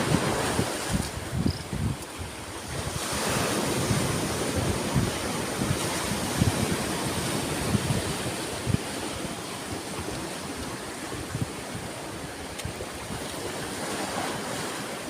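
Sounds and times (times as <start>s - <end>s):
wind buffeting microphone: 0.0s - 14.4s
waves breaking: 0.0s - 15.0s.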